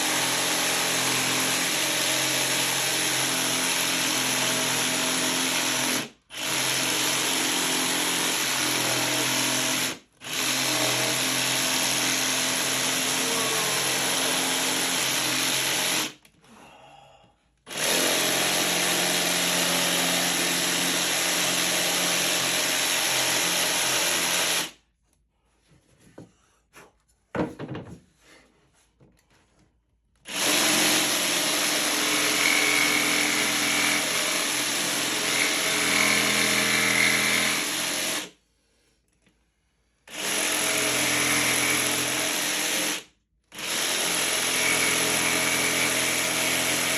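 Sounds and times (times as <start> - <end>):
jigsaw cutting wood: 0.0 - 16.2, 17.7 - 24.8, 30.2 - 38.3, 40.1 - 46.9.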